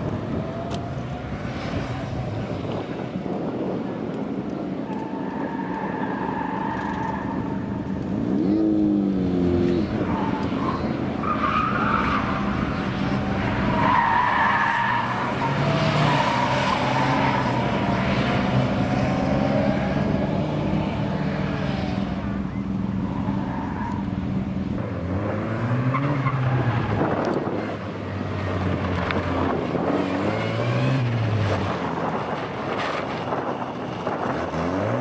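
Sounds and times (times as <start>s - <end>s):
tyres squealing on asphalt: 4.6s - 8.5s, 9.7s - 24.4s, 25.0s - 35.0s
car engine revving: 6.3s - 35.0s.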